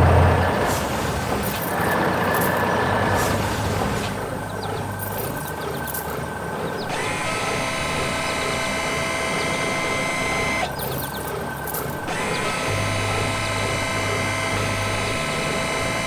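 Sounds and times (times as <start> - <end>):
mechanical whirring and rattling: 0.0 - 16.0
steady multi-tone whine: 1.4 - 16.0.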